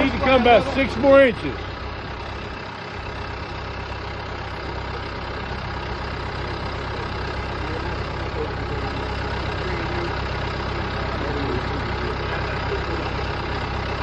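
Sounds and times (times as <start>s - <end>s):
heavy machine engine idling: 0.0s - 14.0s.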